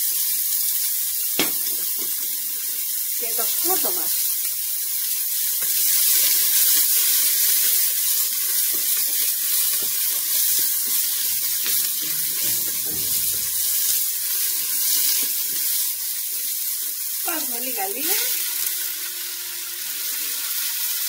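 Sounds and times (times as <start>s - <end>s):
oil sizzling in a pot: 0.0s - 21.0s.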